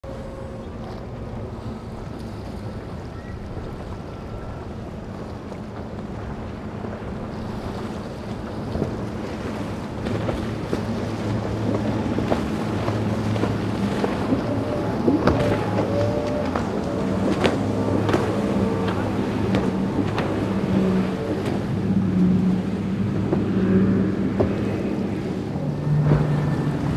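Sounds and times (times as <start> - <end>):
boat engine droning: 0.0 - 26.9
hull slapping water: 0.0 - 26.9
wake splashing: 1.0 - 26.9.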